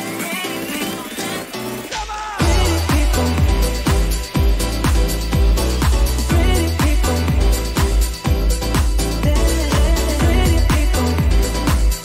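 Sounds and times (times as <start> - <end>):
upbeat electronic pop music: 0.0 - 12.0.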